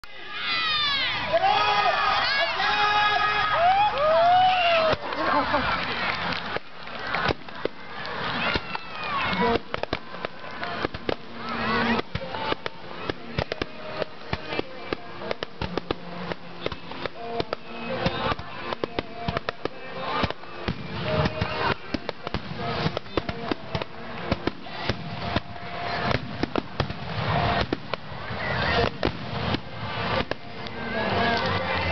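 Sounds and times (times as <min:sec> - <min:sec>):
fireworks bursting with sharp bangs: 0:03.6 - 0:31.9.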